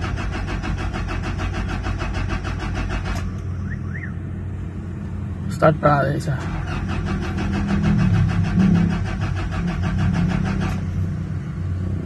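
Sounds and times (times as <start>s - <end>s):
diesel engine cranking: 0.0s - 4.0s, 5.6s - 12.0s.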